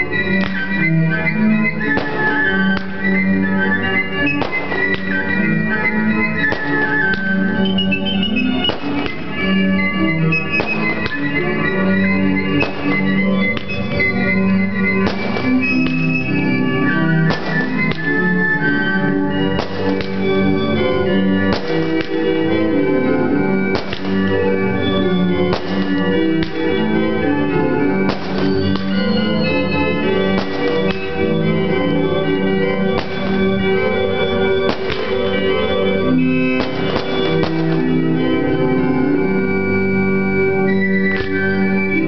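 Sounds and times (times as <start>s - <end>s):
organ playing chords: 0.0s - 42.0s.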